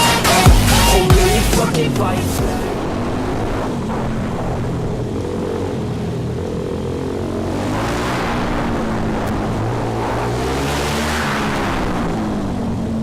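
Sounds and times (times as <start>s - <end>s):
motorbike engine droning: 0.0s - 13.0s.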